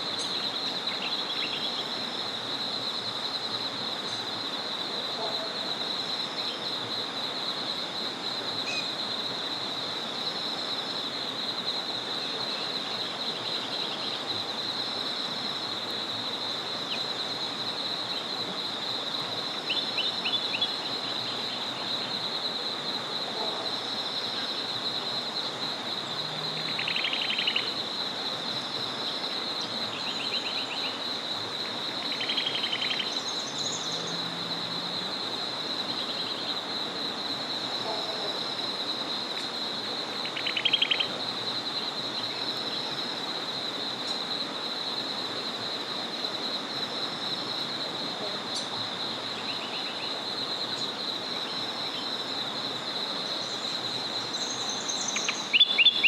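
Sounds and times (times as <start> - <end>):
small river flowing: 0.0 - 56.0.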